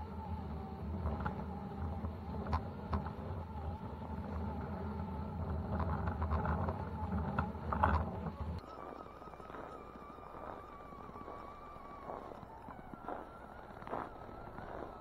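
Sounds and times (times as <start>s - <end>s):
faint motor whine: 0.0s - 15.0s
toy truck motor rumble: 0.0s - 15.0s.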